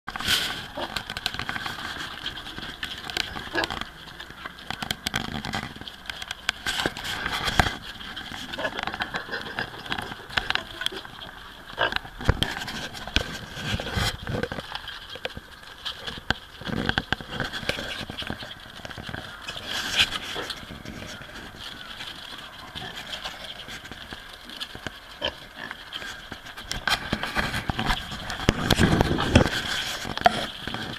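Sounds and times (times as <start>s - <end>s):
hooves scuffling on paving stones: 0.1s - 30.9s.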